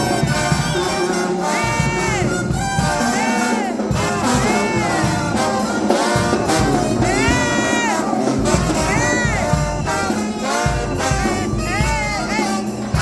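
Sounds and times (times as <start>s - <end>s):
brass band playing jazz: 0.0s - 13.0s.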